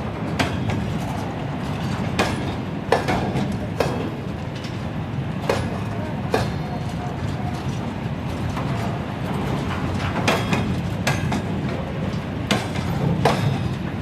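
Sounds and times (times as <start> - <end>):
freight train rumbling past: 0.0 - 14.0
wheel clanks over rail joints: 0.0 - 14.0.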